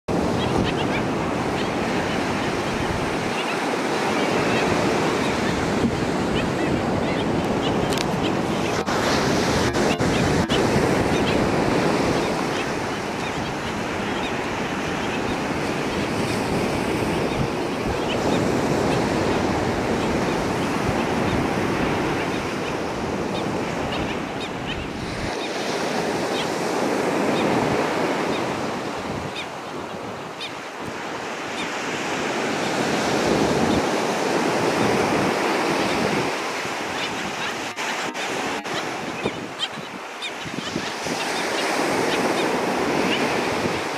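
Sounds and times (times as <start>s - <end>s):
wind buffeting microphone: 0.1s - 31.2s, 31.8s - 43.9s
ocean surf washing ashore: 0.1s - 43.9s.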